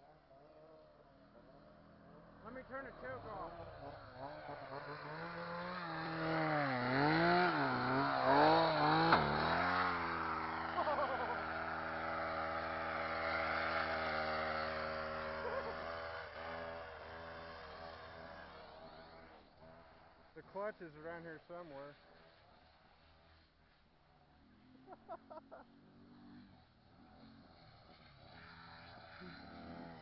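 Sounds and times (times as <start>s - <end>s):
chainsaw engine running: 0.1s - 23.3s, 24.6s - 30.0s.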